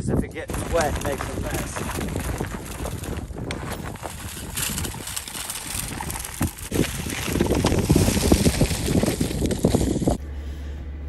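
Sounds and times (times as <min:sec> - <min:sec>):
boots crunching on snow: 0:00.5 - 0:10.2
rock salt rattling: 0:00.5 - 0:10.2
tyres crunching over ice: 0:00.5 - 0:10.2.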